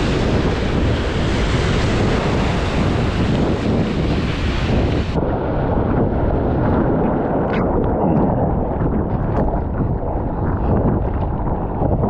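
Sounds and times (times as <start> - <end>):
breaking surf: 0.0 - 9.8
wind buffeting microphone: 0.0 - 12.0.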